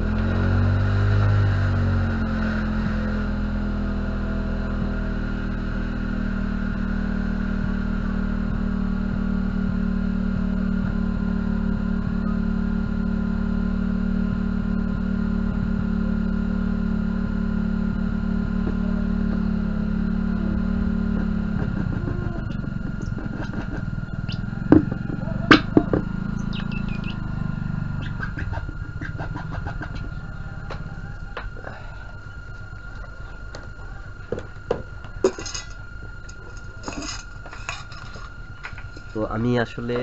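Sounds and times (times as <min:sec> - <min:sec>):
loud steady speaker hum: 0:00.0 - 0:40.0.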